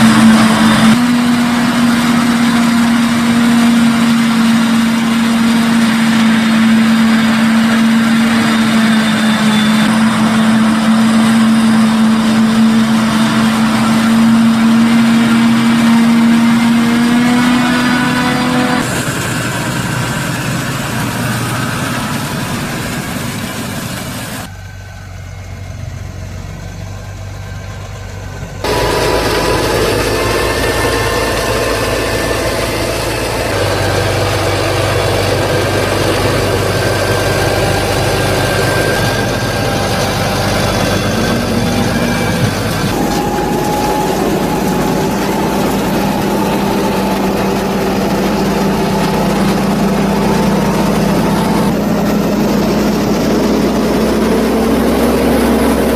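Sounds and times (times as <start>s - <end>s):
tractor running: 0.0s - 55.9s.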